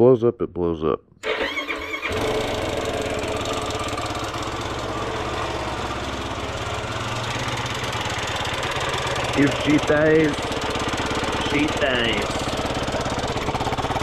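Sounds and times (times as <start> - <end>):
quad engine running: 1.2 - 14.0.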